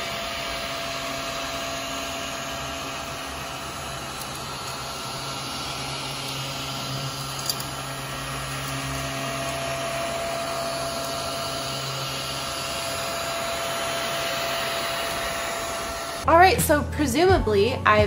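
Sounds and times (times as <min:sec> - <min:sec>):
mini vacuum motor hum and whine: 0:00.0 - 0:16.3.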